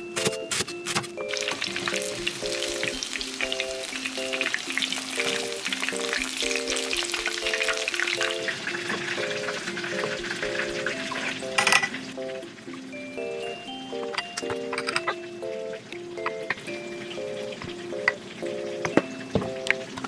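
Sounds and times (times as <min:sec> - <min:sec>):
light background music: 0:00.0 - 0:20.0
deep-frying crackling sizzle: 0:01.0 - 0:20.0.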